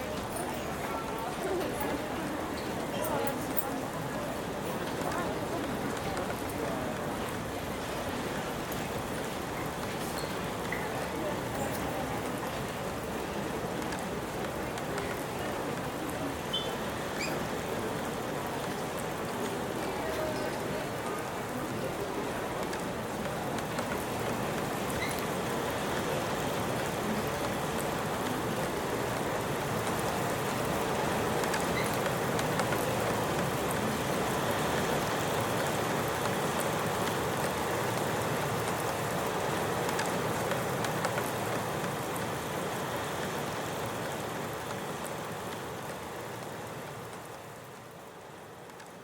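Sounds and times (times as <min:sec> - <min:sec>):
steady rain: 0:00.0 - 0:49.0
raindrop ticks: 0:00.1 - 0:49.0.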